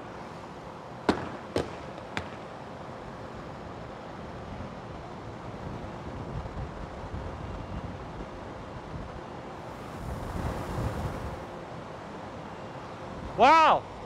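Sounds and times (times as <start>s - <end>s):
steady outdoor hum: 0.0s - 14.0s.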